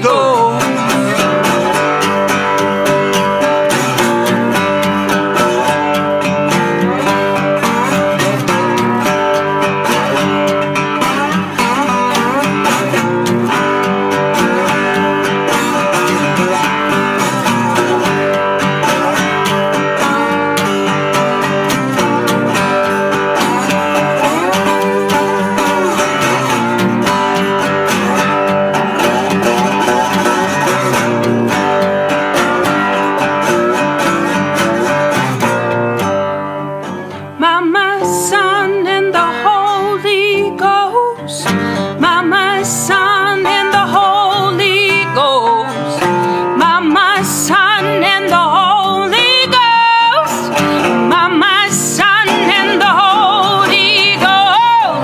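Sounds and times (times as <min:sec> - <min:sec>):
person singing: 0:00.0 - 0:35.6, 0:37.0 - 0:55.0
acoustic guitar strumming: 0:00.0 - 0:55.0.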